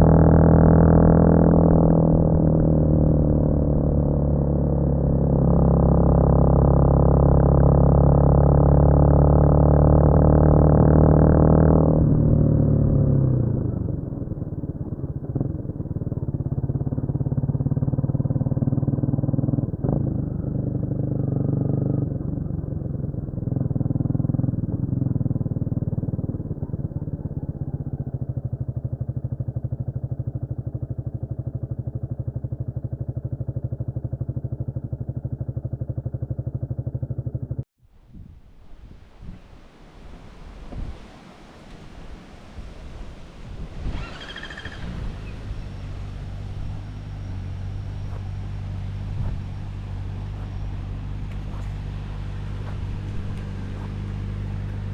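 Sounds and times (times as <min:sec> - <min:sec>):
motorcycle engine running: 0:00.0 - 0:37.7, 0:43.4 - 0:54.9.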